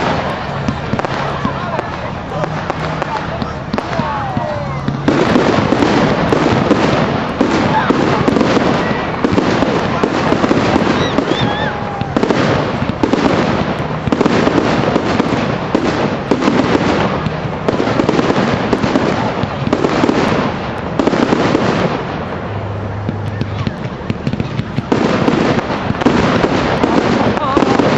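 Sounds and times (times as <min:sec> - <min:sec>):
fireworks bangs and crackles: 0:00.0 - 0:27.9
fireworks whistling: 0:00.0 - 0:27.9.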